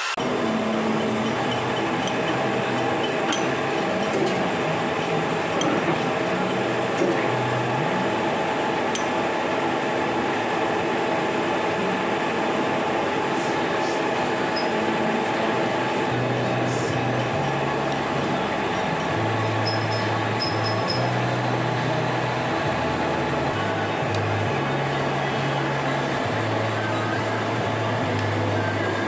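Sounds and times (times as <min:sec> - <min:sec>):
milling machine running: 0:00.0 - 0:29.0.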